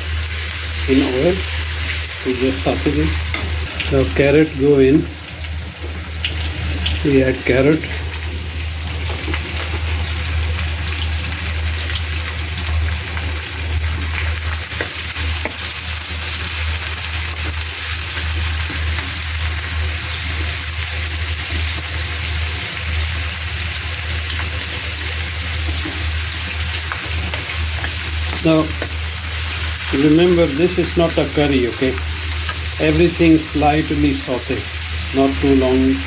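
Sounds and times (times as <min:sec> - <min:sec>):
constant low hum: 0:00.0 - 0:36.0
vegetables sizzling in oil: 0:00.0 - 0:36.0.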